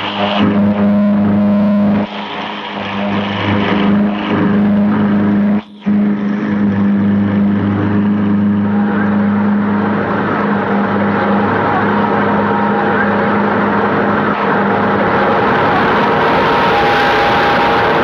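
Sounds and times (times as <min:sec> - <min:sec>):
engine droning hum: 0:00.0 - 0:18.0.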